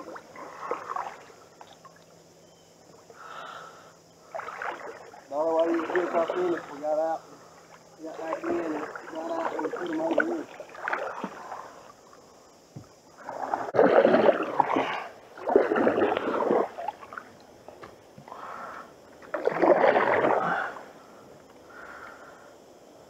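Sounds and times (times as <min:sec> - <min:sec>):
canoe paddle strokes in water: 0:00.0 - 0:02.2, 0:04.2 - 0:21.5.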